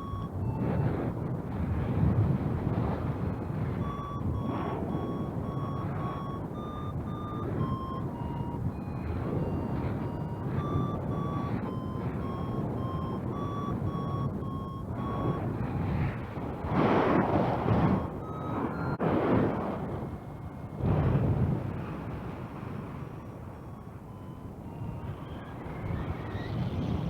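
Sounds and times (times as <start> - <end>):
variometer beeping: 0.0 - 19.3, 22.8 - 27.0
wind rushing over microphone: 0.0 - 27.0.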